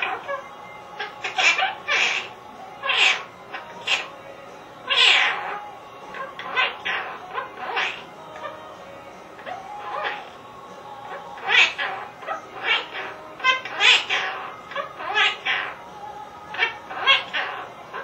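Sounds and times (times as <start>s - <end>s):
parrot talking squawkily: 0.0s - 4.2s, 4.8s - 8.7s, 9.4s - 10.4s, 11.1s - 15.8s, 16.5s - 18.0s
parrot rattling trill: 0.0s - 10.4s, 11.0s - 15.8s, 16.4s - 18.0s.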